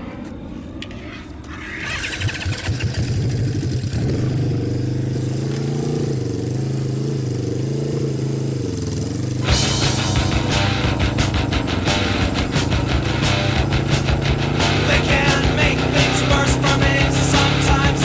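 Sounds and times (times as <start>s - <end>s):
motorcycle engine running: 1.8s - 18.0s.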